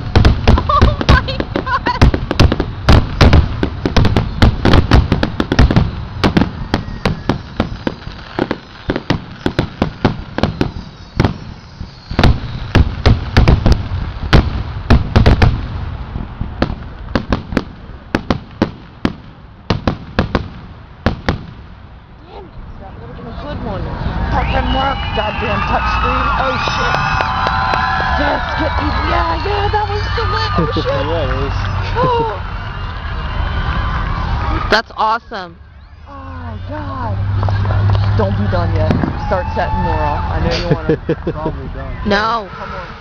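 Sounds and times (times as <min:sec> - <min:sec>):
fireworks explosions: 0:00.0 - 0:35.8, 0:36.5 - 0:43.0.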